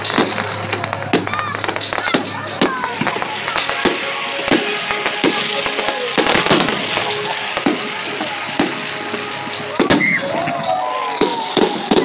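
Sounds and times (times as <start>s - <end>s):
fireworks bangs: 0.0s - 12.0s
fireworks crackling and hissing: 0.0s - 12.0s.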